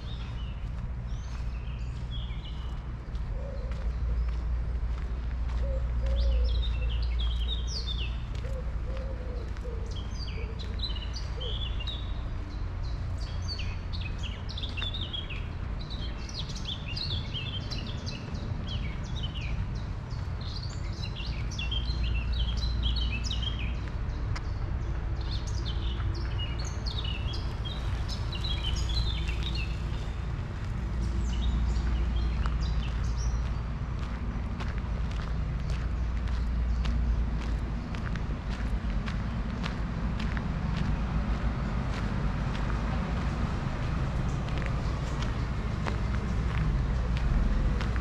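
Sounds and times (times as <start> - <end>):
songbirds chirping and singing: 0.0 - 48.0
steady low rumble: 0.0 - 48.0.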